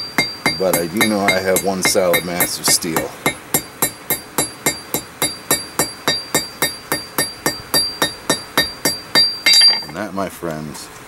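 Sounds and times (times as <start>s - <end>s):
hammer striking steel on anvil: 0.0s - 9.9s.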